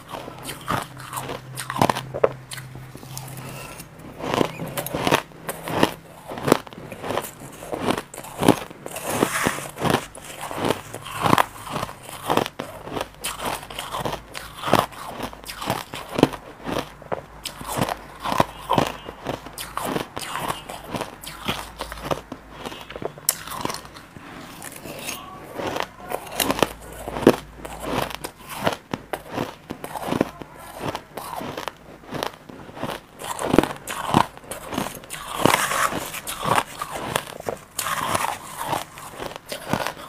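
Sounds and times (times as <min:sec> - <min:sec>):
crushed ice being chewed: 0:00.0 - 0:40.0.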